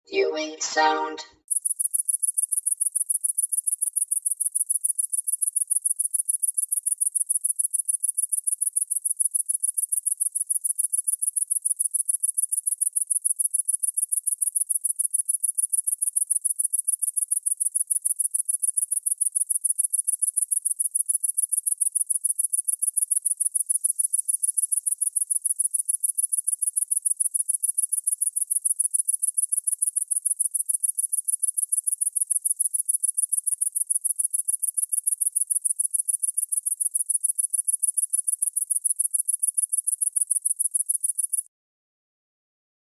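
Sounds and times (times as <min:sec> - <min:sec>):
cricket chirping: 0:01.5 - 0:41.5.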